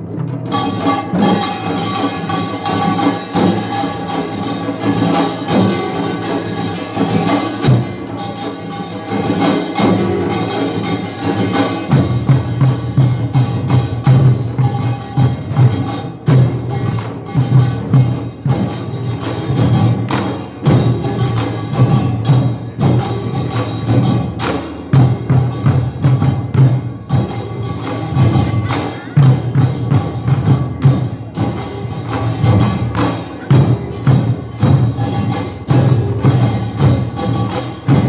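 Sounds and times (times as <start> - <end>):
drums: 0.0 - 38.0.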